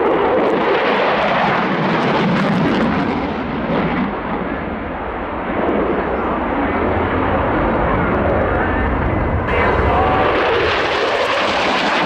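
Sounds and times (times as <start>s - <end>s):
aircraft engine rushing: 0.0s - 12.0s.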